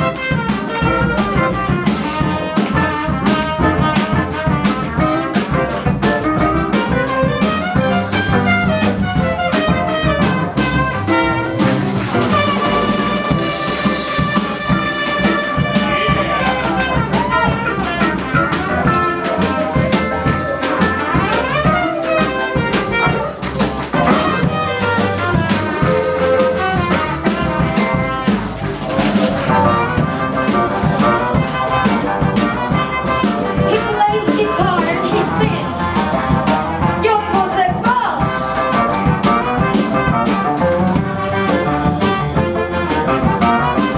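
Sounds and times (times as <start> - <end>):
swing band playing: 0.0 - 43.9.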